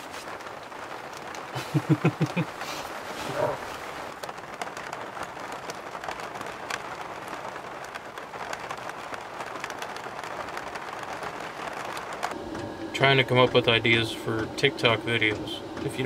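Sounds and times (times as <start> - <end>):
rain on a vehicle roof: 0.0 - 16.0.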